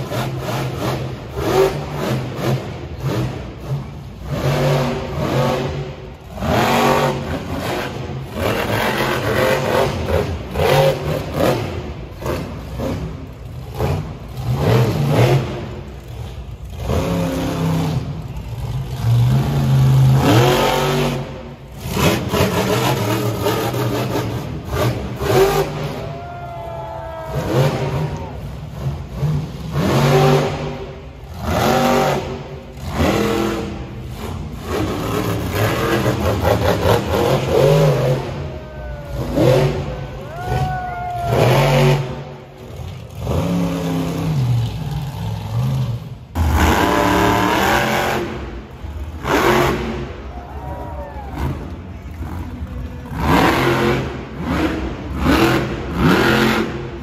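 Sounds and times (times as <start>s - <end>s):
truck engines revving hard: 0.0s - 57.0s.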